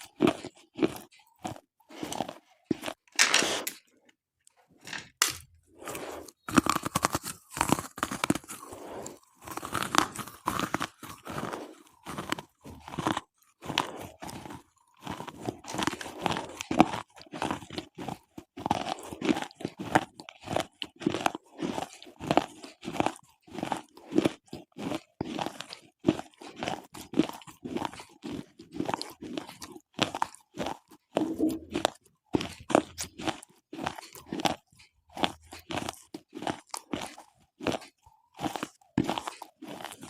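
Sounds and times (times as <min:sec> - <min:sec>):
slate pencils crunching: 0:00.0 - 0:04.0, 0:04.8 - 0:40.0.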